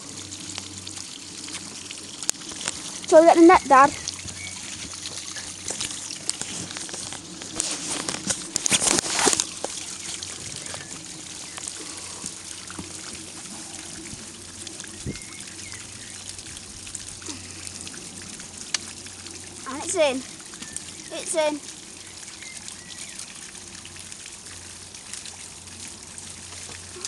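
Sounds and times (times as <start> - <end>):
water trickling and splashing: 0.0 - 27.0.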